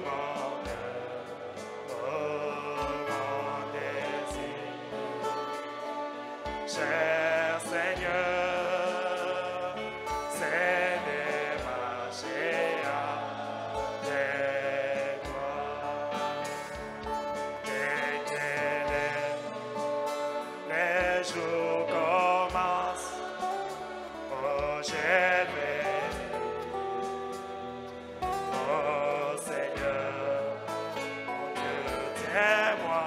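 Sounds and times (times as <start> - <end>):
instrumental accompaniment: 0.0 - 33.0
person singing with vibrato: 0.0 - 33.0.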